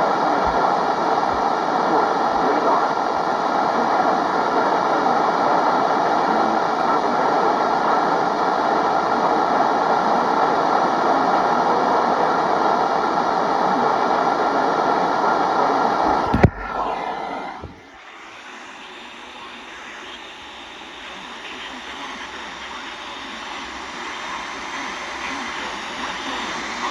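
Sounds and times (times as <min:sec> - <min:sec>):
radio static: 0:00.0 - 0:12.5, 0:15.0 - 0:26.9.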